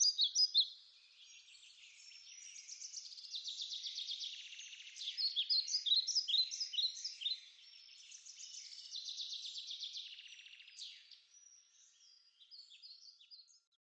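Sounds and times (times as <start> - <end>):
bird chirps and trill: 0.0 - 13.6.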